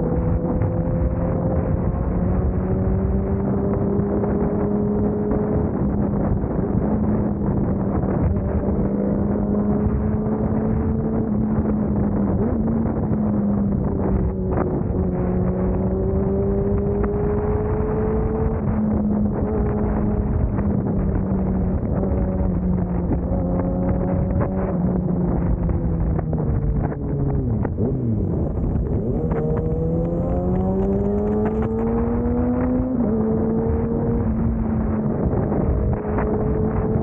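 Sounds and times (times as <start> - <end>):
motorcycle engine cruising: 0.0 - 37.0
wind rush on microphone: 0.0 - 37.0.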